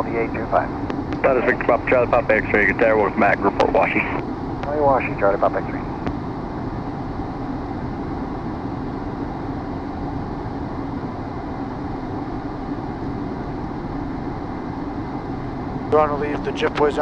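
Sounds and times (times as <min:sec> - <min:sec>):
jet engine hum: 0:00.0 - 0:17.0.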